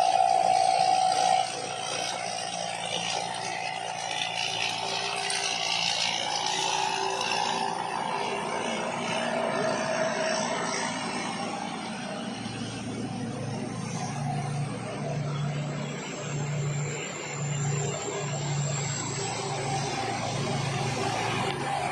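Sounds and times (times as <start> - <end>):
combine harvester running: 0.0 - 21.9
held machine whine: 0.0 - 21.9.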